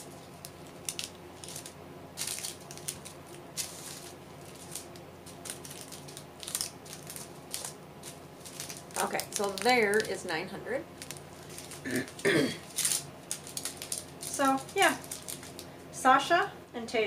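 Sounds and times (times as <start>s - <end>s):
plastic baggies crinkling and rattling: 0.0s - 15.7s.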